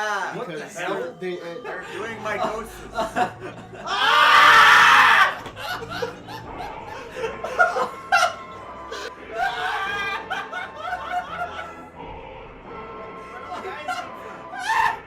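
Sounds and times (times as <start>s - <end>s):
background music: 0.0s - 15.0s
people laughing hard: 1.4s - 12.1s, 13.0s - 15.0s.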